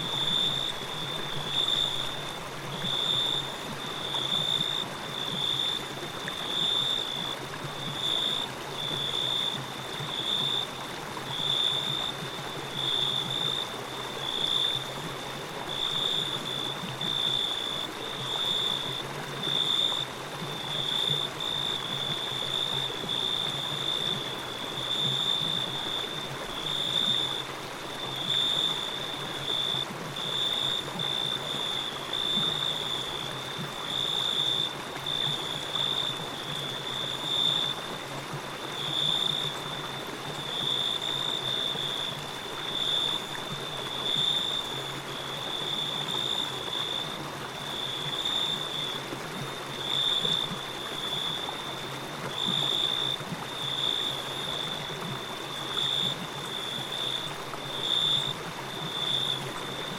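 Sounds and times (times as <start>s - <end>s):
running stream water: 0.0s - 59.9s.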